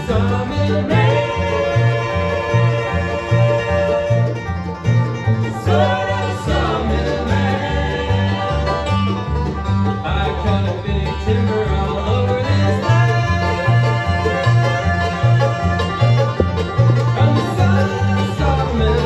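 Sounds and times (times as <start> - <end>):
banjo: 0.0 - 19.0
bass line: 0.0 - 19.0
guitar: 0.0 - 19.0.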